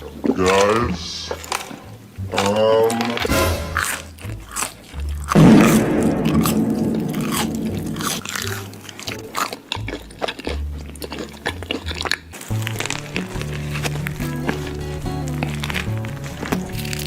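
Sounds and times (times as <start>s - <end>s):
person crunching food: 0.0s - 17.0s.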